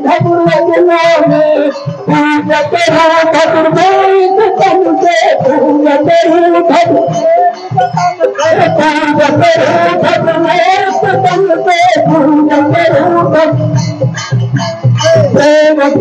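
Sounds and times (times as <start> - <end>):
devotional singing: 0.0 - 16.0
hand percussion: 0.0 - 16.0.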